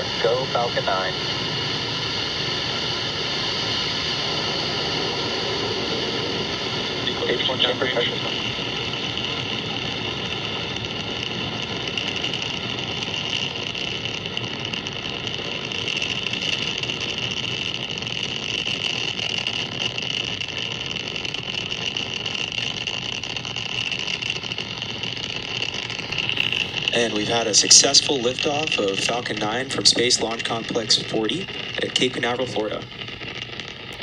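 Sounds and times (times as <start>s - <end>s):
rocket engines rumbling: 0.0s - 34.0s.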